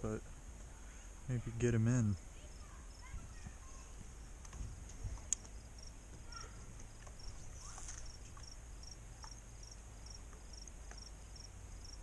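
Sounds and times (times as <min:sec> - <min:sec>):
faint low background noise: 0:00.0 - 0:12.0
insect chirping: 0:00.1 - 0:12.0.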